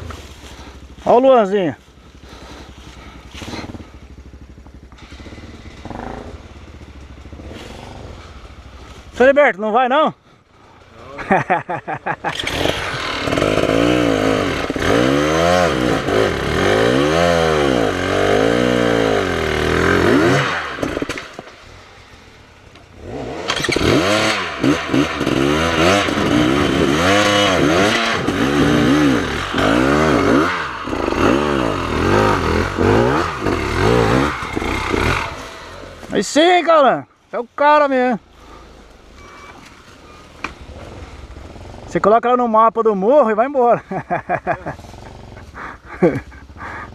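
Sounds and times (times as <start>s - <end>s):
dirt bike engine revving: 0.0s - 10.0s, 10.7s - 37.0s, 37.8s - 42.5s, 43.2s - 46.9s.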